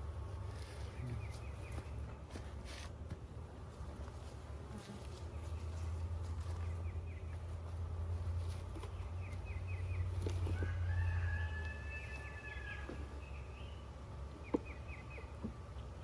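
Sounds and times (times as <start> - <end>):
birds chirping: 0.5 - 2.6, 4.5 - 16.0.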